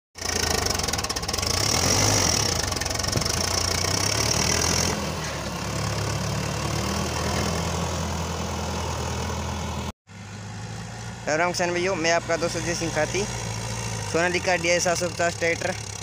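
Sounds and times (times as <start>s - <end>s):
diesel tractor engine under load: 0.2s - 16.0s.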